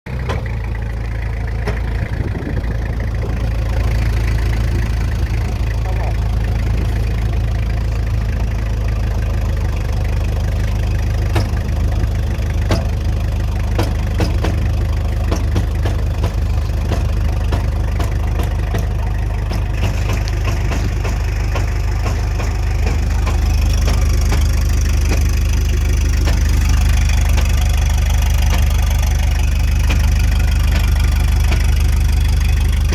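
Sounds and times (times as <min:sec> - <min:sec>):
engine running hum: 0:00.1 - 0:32.9.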